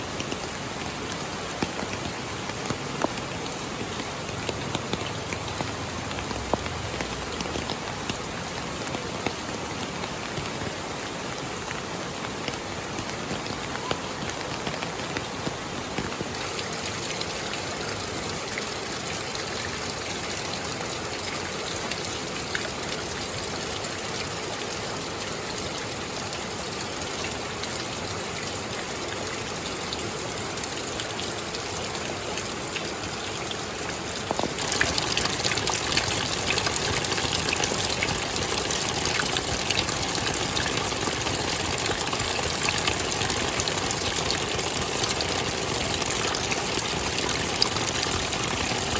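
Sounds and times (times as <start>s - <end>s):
rushing water: 0.0s - 48.9s
steady rain: 0.0s - 48.9s.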